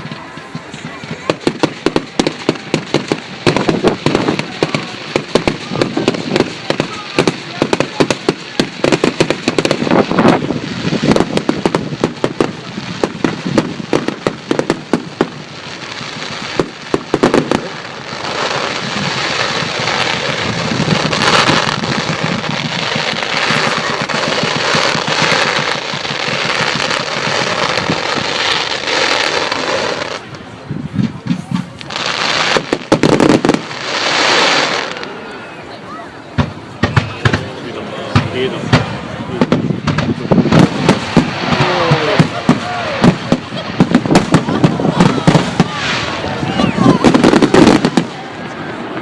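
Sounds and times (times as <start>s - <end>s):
continuous rush of fireworks: 0.0s - 49.0s
fireworks banging: 0.0s - 49.0s.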